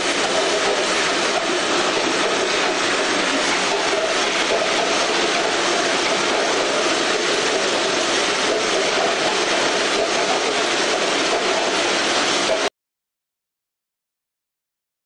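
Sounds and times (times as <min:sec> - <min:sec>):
labelling machine running: 0:00.0 - 0:12.7.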